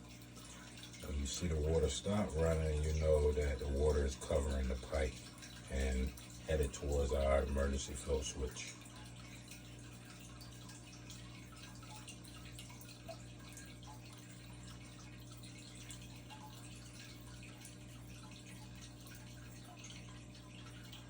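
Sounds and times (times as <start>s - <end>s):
steady low hum: 0.0s - 21.0s
water trickling and dripping: 0.0s - 21.0s.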